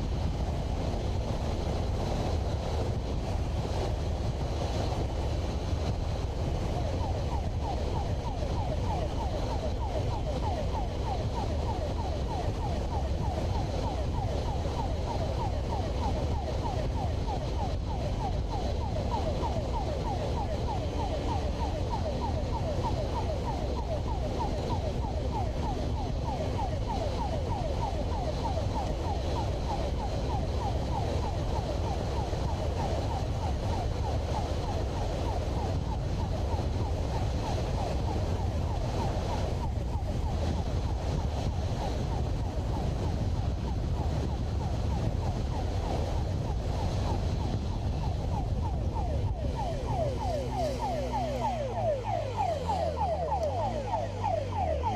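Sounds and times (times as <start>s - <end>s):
motorcycle siren sweeping: 0.0s - 54.9s
wind rumble on microphone: 0.0s - 54.9s.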